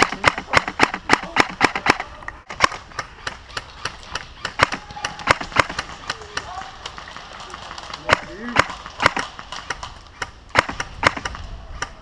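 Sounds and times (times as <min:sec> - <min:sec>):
airsoft gun shots: 0:00.0 - 0:06.6, 0:08.0 - 0:12.0.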